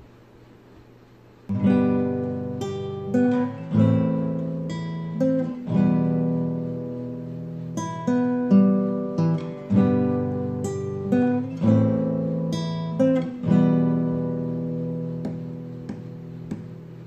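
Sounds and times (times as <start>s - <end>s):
acoustic guitar strumming chords: 1.5s - 17.0s.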